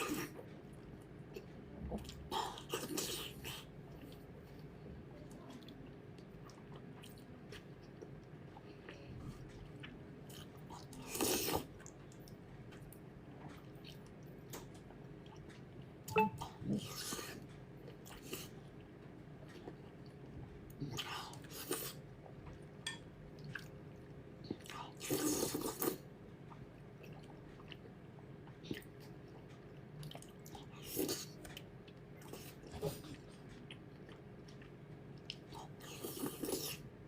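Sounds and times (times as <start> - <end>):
chewing and mouth smacks: 5.5 - 22.7, 23.3 - 36.8.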